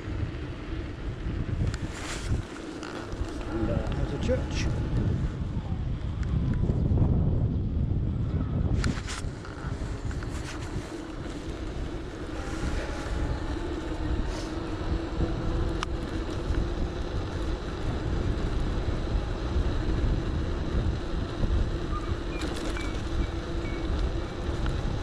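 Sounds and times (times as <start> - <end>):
electric bike rumble: 0.0 - 25.0
wind buffeting microphone: 0.0 - 25.0.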